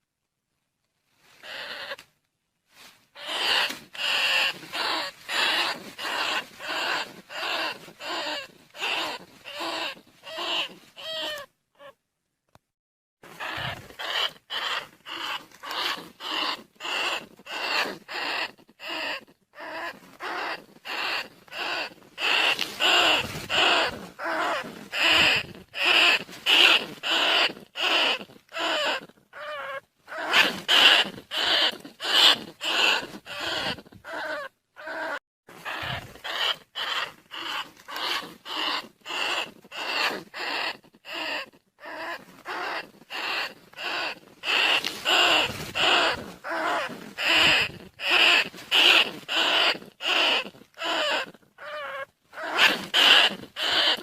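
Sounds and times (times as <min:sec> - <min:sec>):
rat squeaks: 0:01.4 - 0:02.0, 0:03.2 - 0:12.0, 0:13.3 - 0:54.0.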